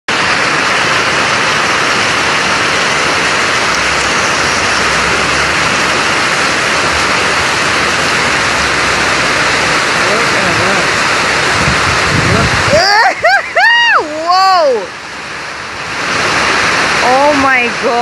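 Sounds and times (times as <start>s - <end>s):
floodwater rushing: 0.1s - 18.0s
heavy rain pouring: 0.1s - 18.0s.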